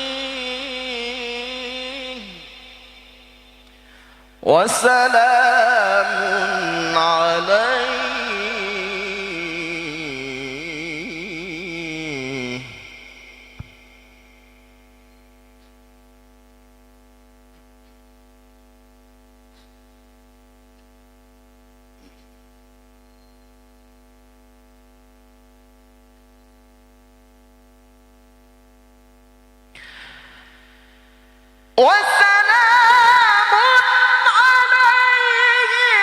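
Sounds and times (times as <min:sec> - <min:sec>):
electrical mains hum: 0:00.0 - 0:36.0.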